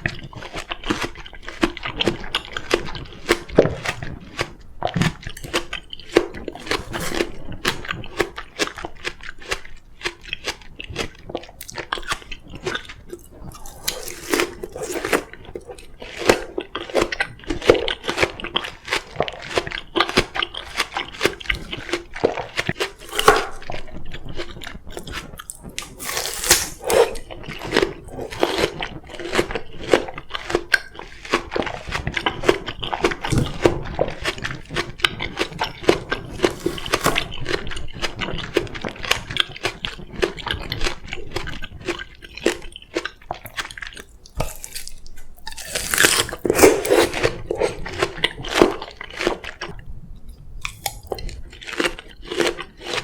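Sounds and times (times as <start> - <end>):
melon crunching being chewed: 0.0 - 53.0.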